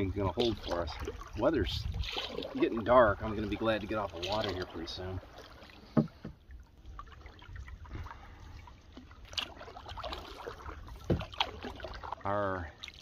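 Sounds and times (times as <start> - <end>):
paddle splashing in water: 0.0 - 13.0.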